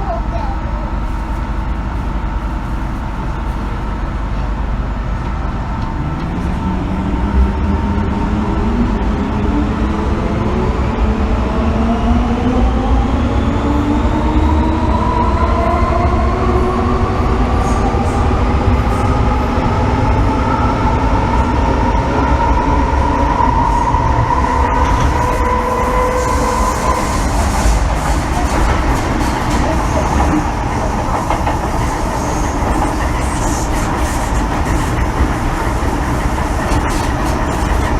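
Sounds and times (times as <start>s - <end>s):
wheels rumbling on track: 0.0s - 37.9s.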